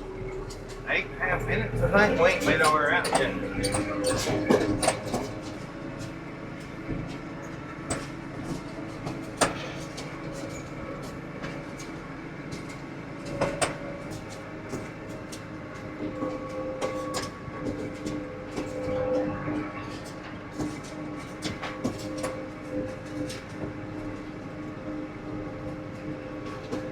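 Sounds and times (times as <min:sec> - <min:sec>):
machinery clanks and rattles: 0:00.0 - 0:26.9
tractor running: 0:00.0 - 0:26.9.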